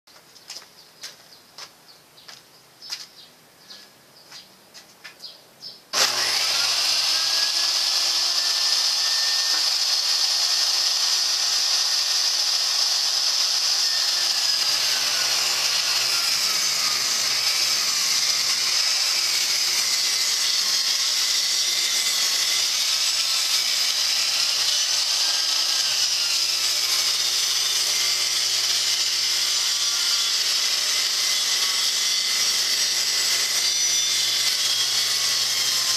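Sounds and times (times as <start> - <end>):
table saw whining: 5.9 - 35.9.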